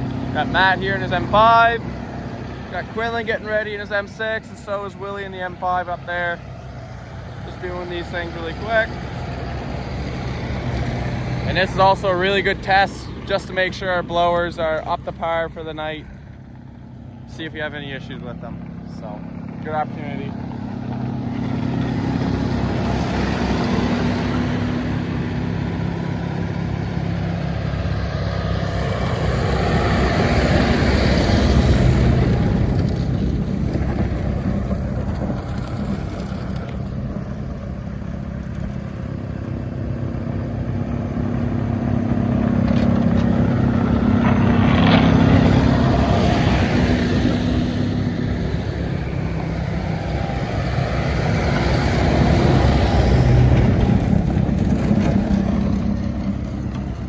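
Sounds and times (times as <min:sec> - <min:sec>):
snowblowers rushing: 0:00.0 - 0:57.0
tractor diesel engines humming: 0:00.0 - 0:57.0.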